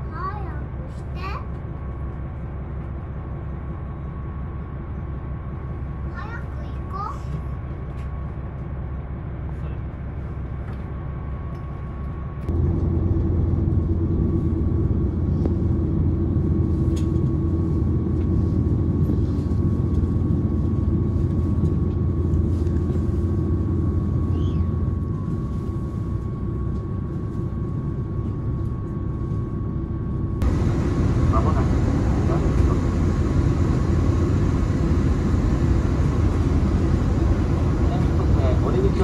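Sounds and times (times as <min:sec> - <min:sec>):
train engine and wheels rumbling: 0:00.0 - 0:39.0.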